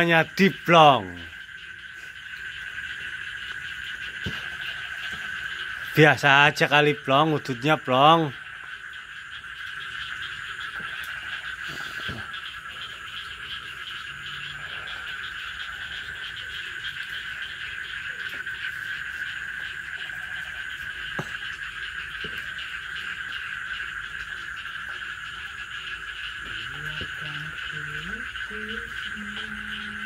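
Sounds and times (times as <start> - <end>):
chorus of frogs calling: 0.0 - 30.0.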